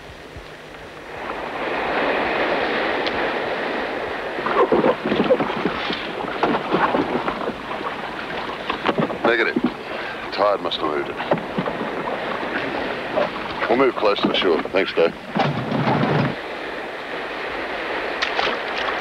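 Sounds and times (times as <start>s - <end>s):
surf hissing: 0.0s - 19.0s
water splashing against rocks: 1.1s - 19.0s.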